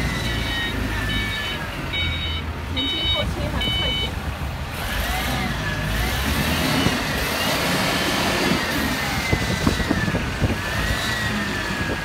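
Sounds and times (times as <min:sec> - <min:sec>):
forklift diesel engine running: 0:00.0 - 0:12.0.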